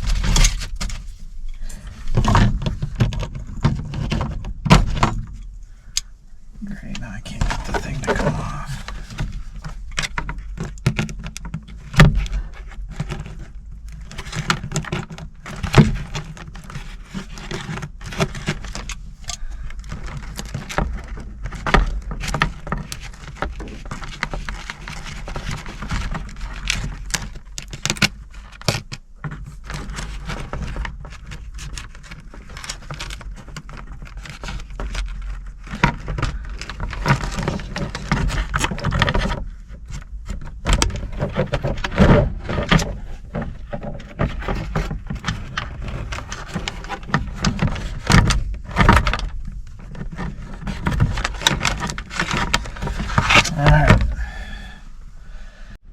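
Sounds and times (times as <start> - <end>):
small clicks and rattles: 7.6 - 54.1.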